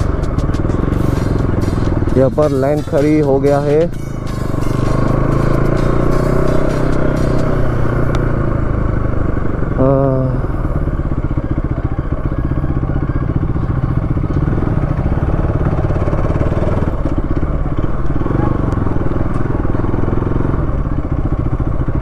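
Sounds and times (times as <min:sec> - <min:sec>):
motorcycle engine at low speed: 0:00.0 - 0:22.0.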